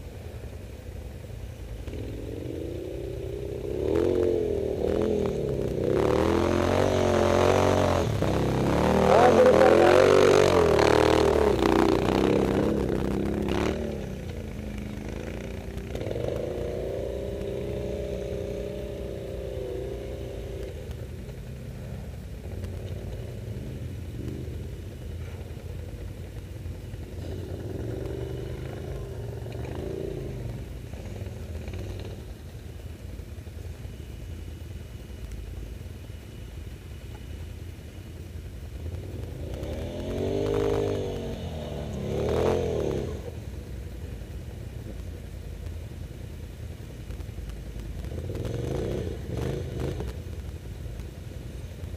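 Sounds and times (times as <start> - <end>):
quad bike engines revving: 0.0 - 36.4, 37.0 - 51.9
low engine rumble: 0.0 - 51.9.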